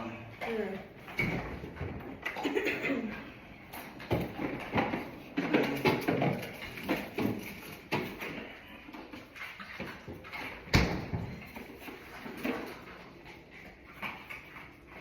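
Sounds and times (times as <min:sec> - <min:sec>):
objects knocking and clattering: 0:01.0 - 0:15.0.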